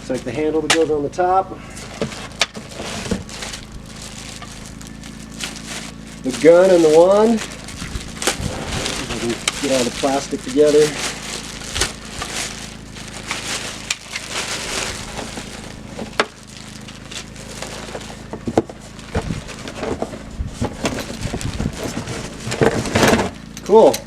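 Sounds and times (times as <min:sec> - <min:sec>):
plastic packaging crinkling: 0:01.8 - 0:23.0.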